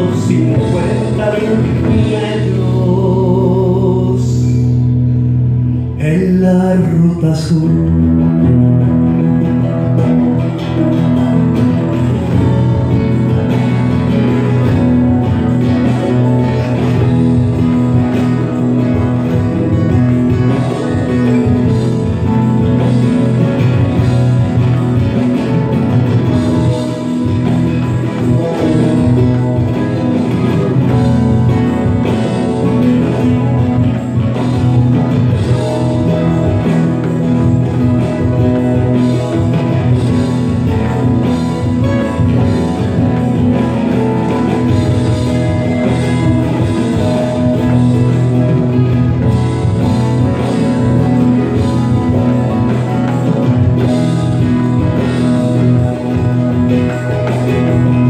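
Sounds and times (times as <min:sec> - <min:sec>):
acoustic and electric guitars: 0:00.0 - 0:58.0
bass guitar line: 0:00.0 - 0:58.0
drums keeping a beat: 0:00.0 - 0:58.0.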